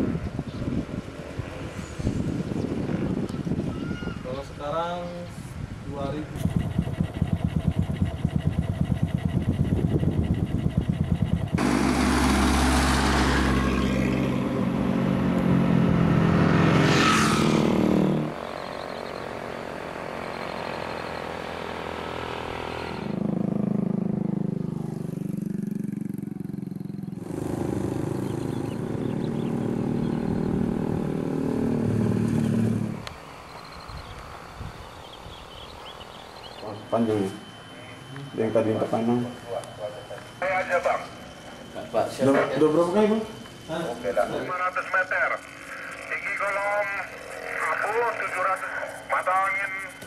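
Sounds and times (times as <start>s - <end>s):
vehicle engines revving: 4.3s - 50.0s.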